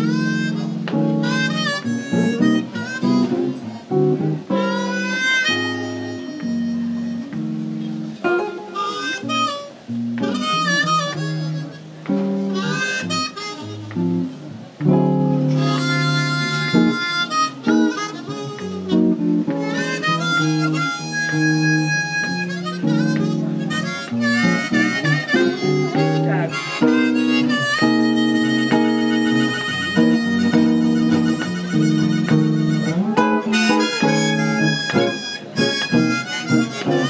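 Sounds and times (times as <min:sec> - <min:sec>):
bluesy harmonica melody: 0:00.0 - 0:37.0
jazz guitar chords: 0:00.0 - 0:37.0.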